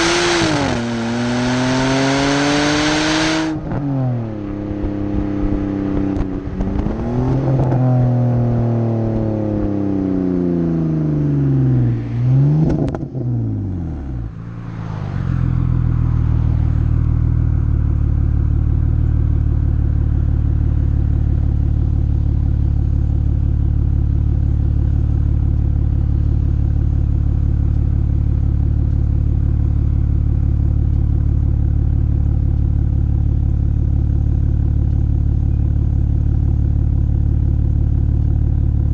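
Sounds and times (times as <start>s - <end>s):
car engine revving with exhaust pops: 0.0s - 14.4s, 15.4s - 38.9s.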